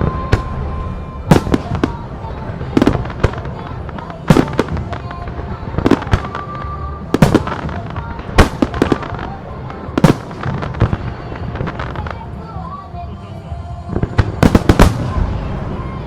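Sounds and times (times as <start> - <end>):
fireworks crackle: 0.0 - 13.3, 13.9 - 16.0
fireworks bursting: 0.0 - 16.0
music playing: 0.0 - 16.0.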